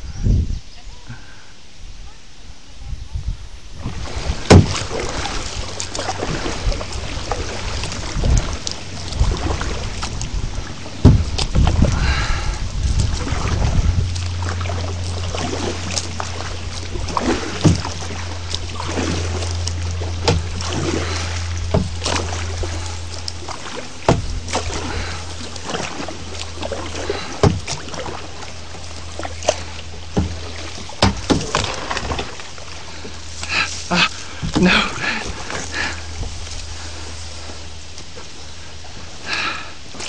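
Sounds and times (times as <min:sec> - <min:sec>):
steady low hum: 0:00.0 - 0:40.0
reeds scraping along kayak hull: 0:03.7 - 0:40.0
paddle knocks and splashes: 0:03.8 - 0:40.0.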